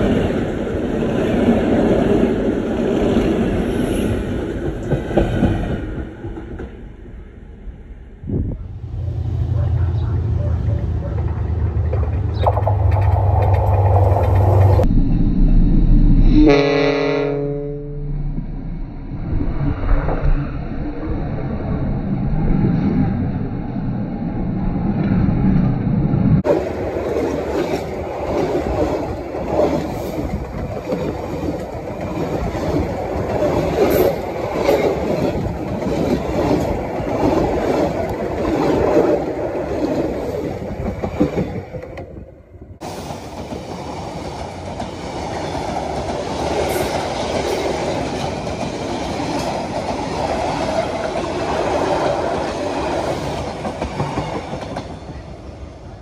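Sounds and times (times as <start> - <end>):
train passing with rumble: 0.0 - 19.3, 20.6 - 56.0.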